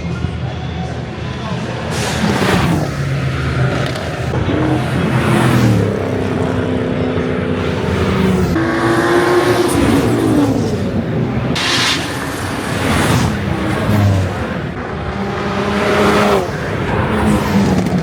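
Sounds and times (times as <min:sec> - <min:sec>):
race car engine accelerating: 0:01.0 - 0:18.0.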